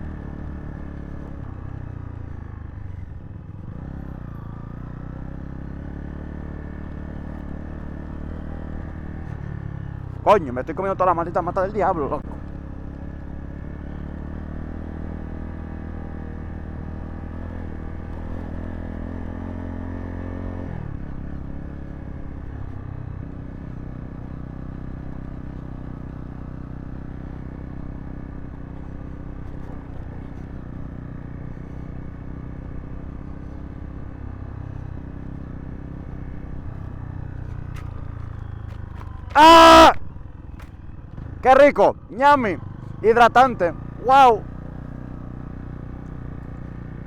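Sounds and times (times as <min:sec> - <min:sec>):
motorcycle engine running: 0:00.0 - 0:20.4, 0:21.0 - 0:47.0.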